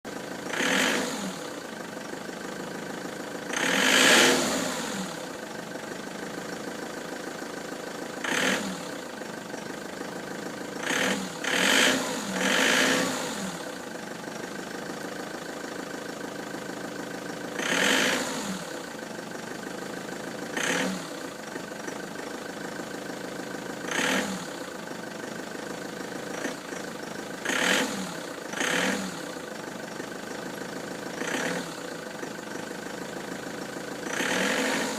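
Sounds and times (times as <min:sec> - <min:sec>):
van engine idling and revving: 0:00.0 - 0:34.9.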